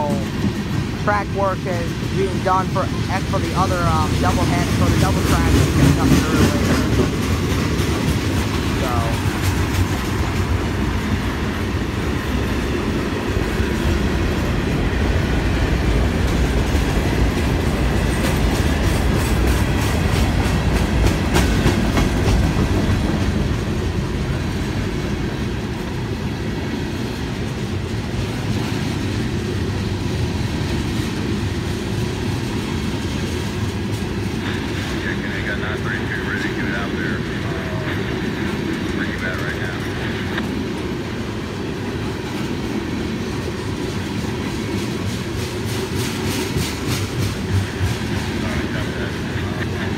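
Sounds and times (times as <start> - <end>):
freight train wheels rumbling on rail: 0.0 - 49.9.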